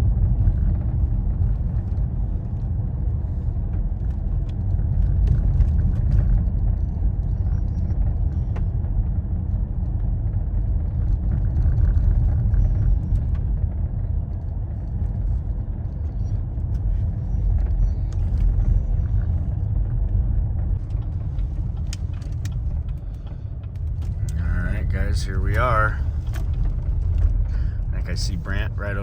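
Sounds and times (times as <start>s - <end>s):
vehicle interior rumble: 0.0s - 29.0s.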